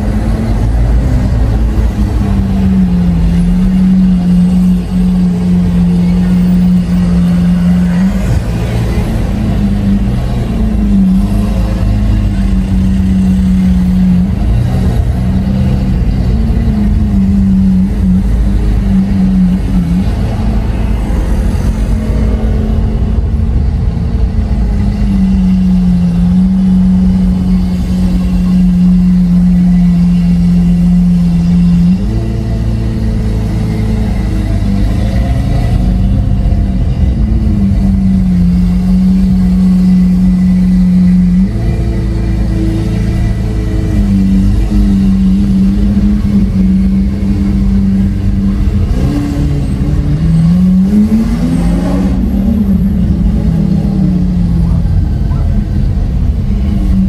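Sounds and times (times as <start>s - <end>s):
loud sports car engine: 0.0s - 57.0s.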